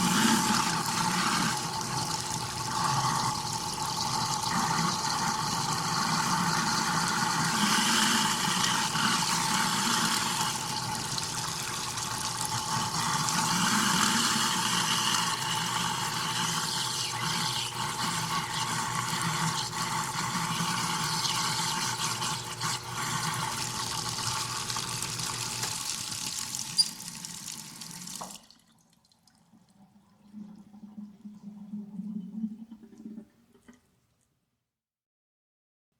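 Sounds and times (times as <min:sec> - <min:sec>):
garbage disposal running: 0:00.0 - 0:33.9
tap water flowing into sink: 0:00.0 - 0:34.3.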